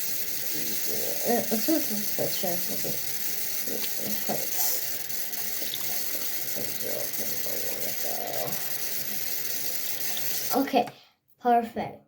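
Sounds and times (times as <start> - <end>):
tap water running into sink: 0.0 - 10.7.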